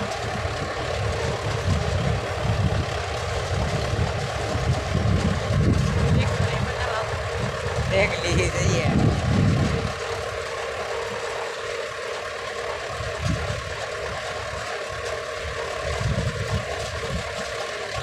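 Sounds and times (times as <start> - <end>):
wind buffeting microphone: 0.0 - 11.2, 12.8 - 18.0
tractor diesel engine running: 0.0 - 18.0.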